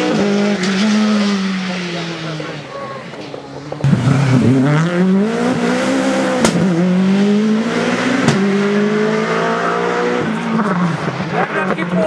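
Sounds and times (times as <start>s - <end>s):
rally car accelerating hard: 0.0s - 12.0s.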